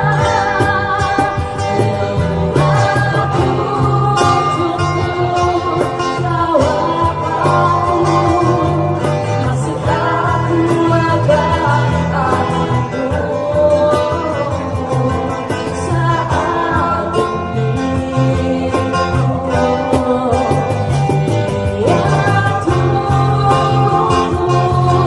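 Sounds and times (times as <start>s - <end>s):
acoustic guitars strumming: 0.0s - 25.0s
woman singing into microphone: 0.0s - 25.0s.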